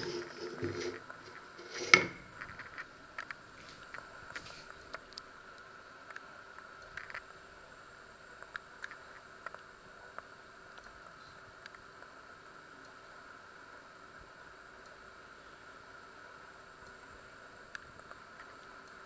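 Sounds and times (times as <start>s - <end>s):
liquid simmering hiss: 0.0s - 19.0s.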